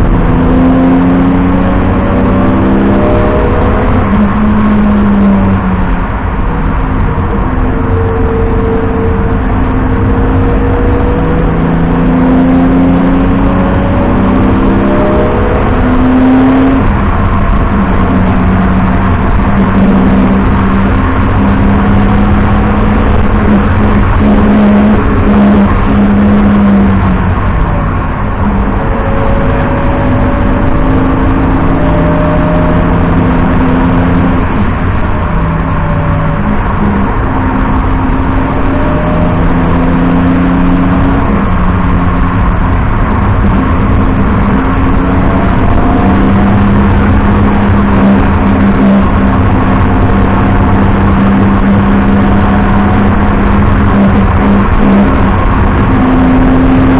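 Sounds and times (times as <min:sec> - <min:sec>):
car engine revving: 0:00.0 - 0:56.9
road noise: 0:00.0 - 0:56.9.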